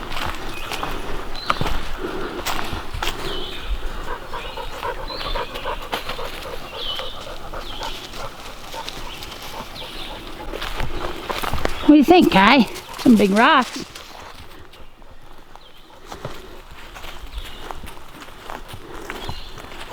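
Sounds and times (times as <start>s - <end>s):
dog panting: 1.9s - 19.9s.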